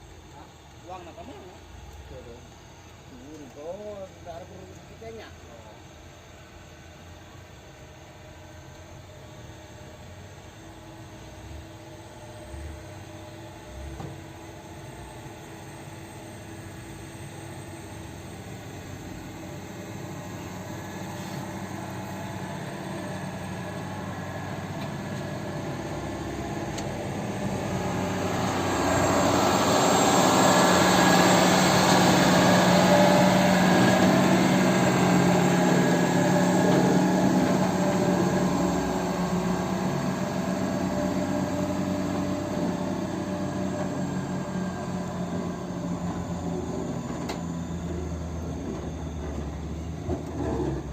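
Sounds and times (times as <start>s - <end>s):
diesel truck engine: 0.0s - 50.9s.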